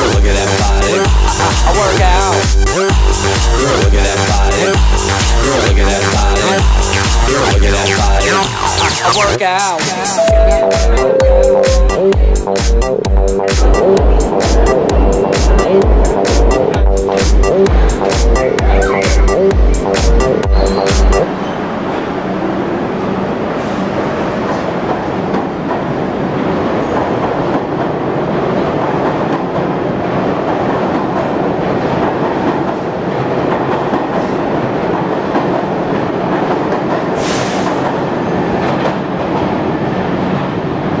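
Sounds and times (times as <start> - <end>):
subway train rumbling on rails: 0.0 - 41.0.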